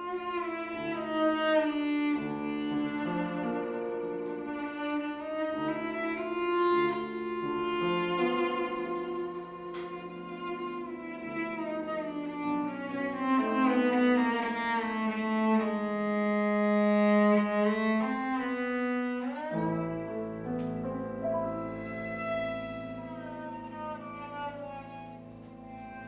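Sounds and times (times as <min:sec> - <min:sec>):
cello sustained notes: 0:00.0 - 0:26.0
violin sustained notes: 0:00.0 - 0:26.0.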